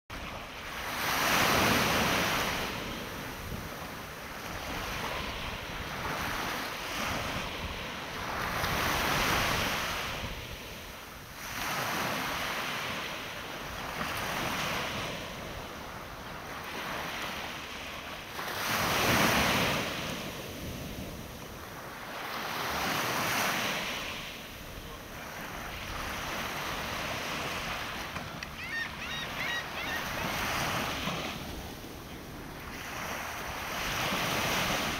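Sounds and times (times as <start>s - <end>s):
ocean waves washing on shore: 0.1s - 34.9s.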